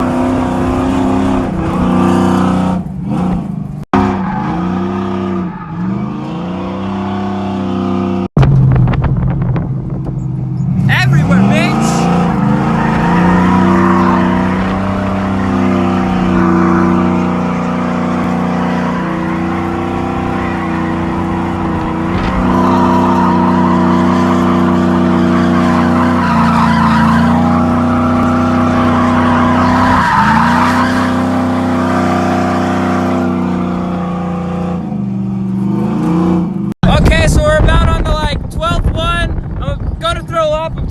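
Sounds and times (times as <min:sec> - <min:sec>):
tires squealing: 0:00.0 - 0:08.3, 0:10.1 - 0:37.0
pickup engine revving high: 0:00.0 - 0:37.2.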